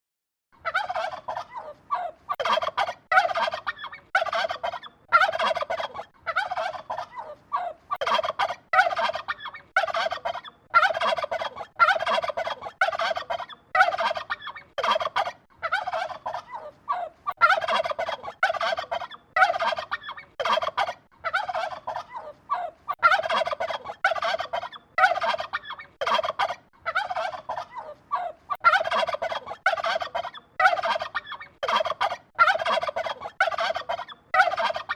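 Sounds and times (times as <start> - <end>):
turkey gobbling: 0.6 - 34.9.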